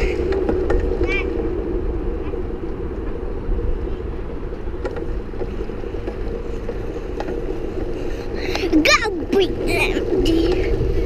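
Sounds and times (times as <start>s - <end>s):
small wheels rolling over bricks: 0.0s - 11.0s.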